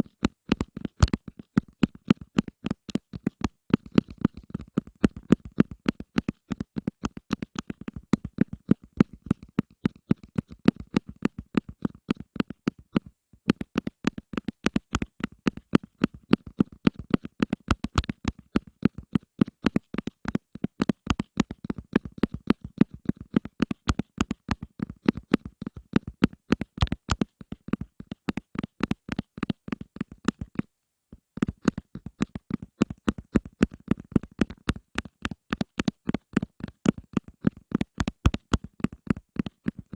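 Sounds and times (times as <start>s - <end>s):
rapid tapping: 0.0s - 30.7s, 31.4s - 39.9s.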